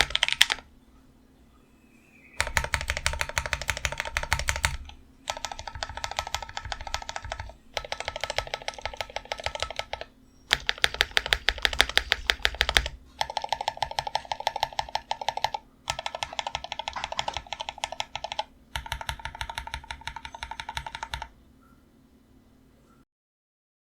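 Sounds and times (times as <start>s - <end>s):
fast mechanical keyboard typing: 0.0s - 0.7s, 2.4s - 21.4s
faint steady hum: 0.0s - 23.0s.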